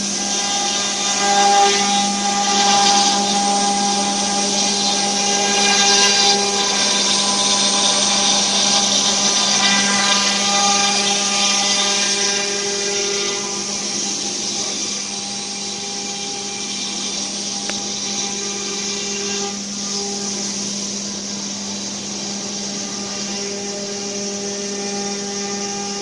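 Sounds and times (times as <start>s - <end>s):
cutting hiss: 0.0s - 26.0s
router spindle whining: 0.0s - 26.0s.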